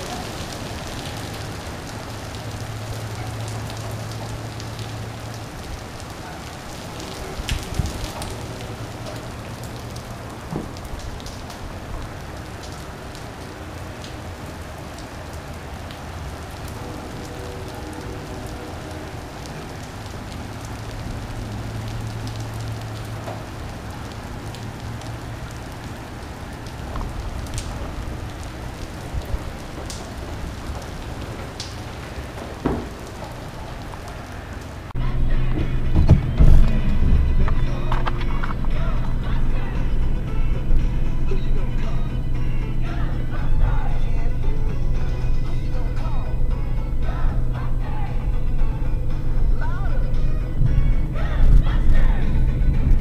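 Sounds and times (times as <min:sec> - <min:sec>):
heavy rain on pavement: 0:00.0 - 0:53.0.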